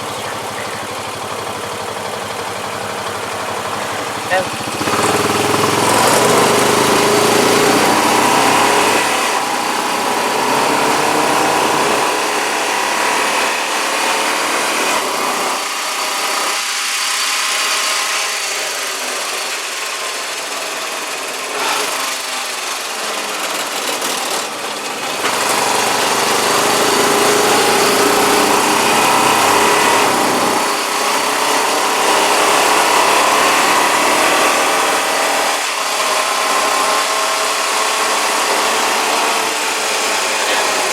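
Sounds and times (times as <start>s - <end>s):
vehicle engine running: 0.0s - 18.0s, 19.0s - 40.9s.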